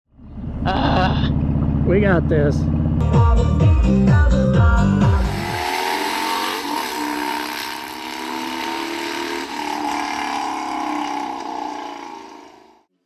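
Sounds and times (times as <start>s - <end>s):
motorcycle engine running: 0.1s - 12.8s.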